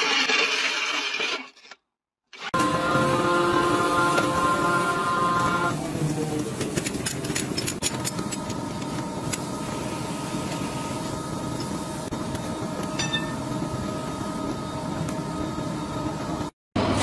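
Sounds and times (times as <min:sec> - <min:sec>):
factory machinery humming: 0:02.4 - 0:17.0.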